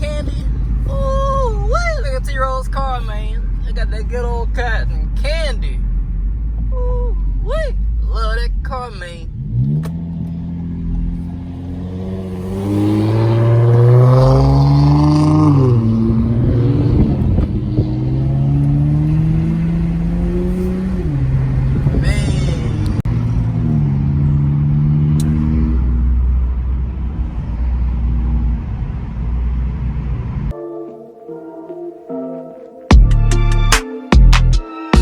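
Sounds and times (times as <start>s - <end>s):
car engine accelerating: 0.0s - 30.5s.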